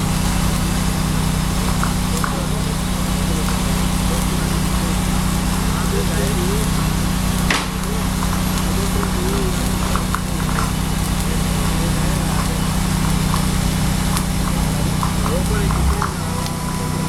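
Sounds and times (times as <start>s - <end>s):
engine humming: 0.0s - 17.0s
welding arc crackling: 0.0s - 17.0s.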